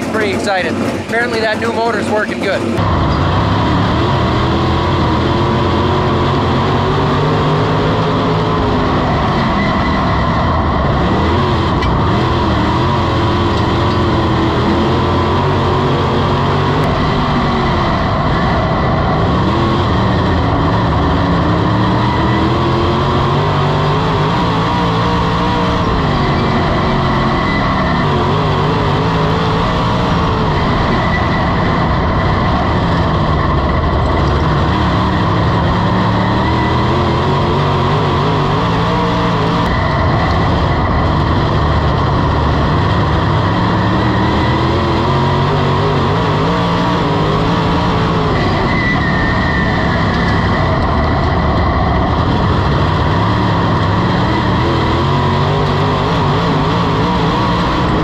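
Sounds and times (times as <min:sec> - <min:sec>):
race car engine at speed: 0:00.0 - 0:58.0.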